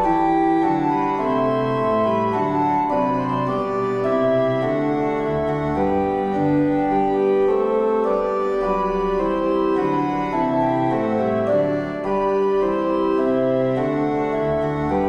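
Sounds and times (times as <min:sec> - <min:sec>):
organ playing slow chords: 0:00.0 - 0:15.0.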